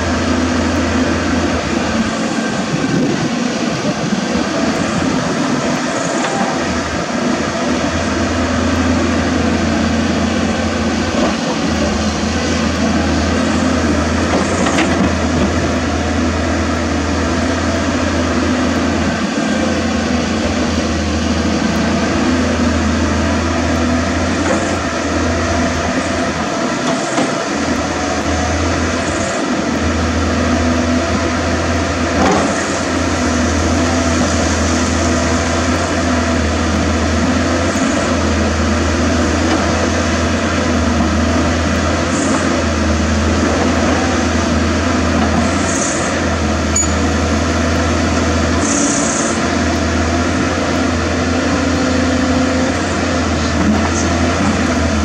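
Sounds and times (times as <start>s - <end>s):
excavator diesel engine: 0.0s - 55.0s
hydraulics working: 0.0s - 55.0s.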